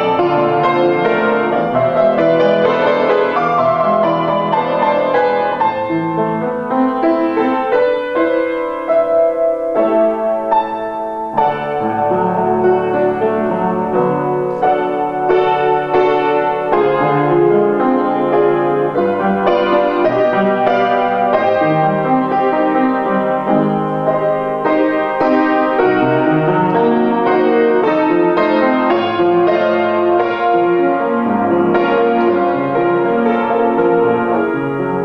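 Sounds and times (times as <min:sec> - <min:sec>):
upright piano playing: 0:00.0 - 0:35.0.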